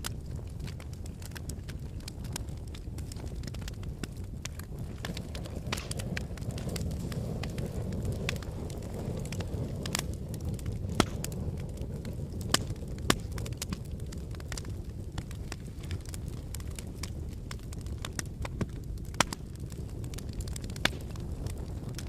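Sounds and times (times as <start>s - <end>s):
fire rumbling: 0.0s - 22.0s
wood fire crackling and popping: 0.0s - 22.0s.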